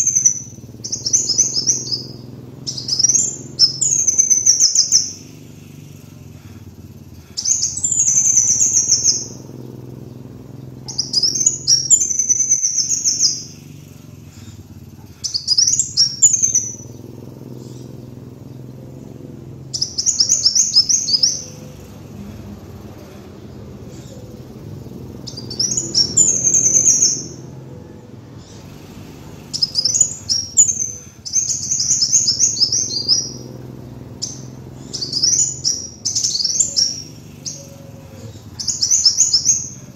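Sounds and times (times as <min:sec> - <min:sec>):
bird singing trilled phrases: 0:00.0 - 0:39.9
faint low hum: 0:00.0 - 0:39.9.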